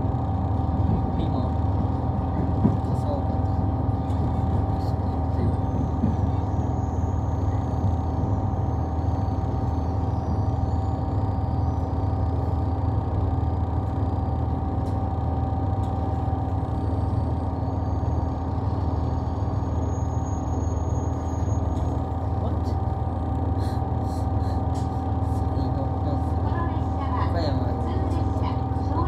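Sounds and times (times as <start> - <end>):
constant hum: 0.0 - 29.0
train rumble: 0.0 - 29.0.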